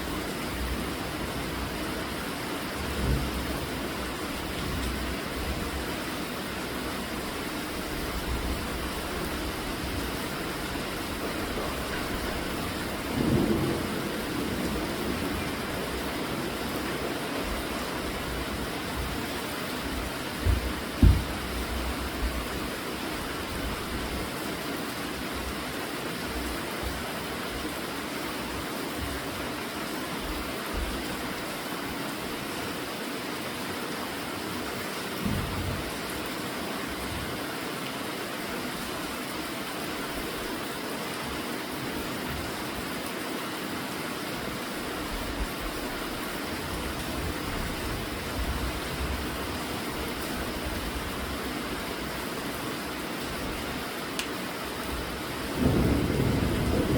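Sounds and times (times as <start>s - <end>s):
steady rainfall: 0.0s - 56.9s.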